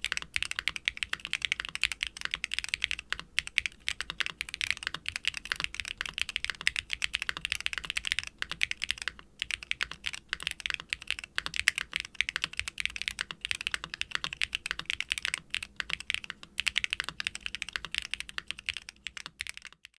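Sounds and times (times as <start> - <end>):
mechanical keyboard typing: 0.0 - 20.0.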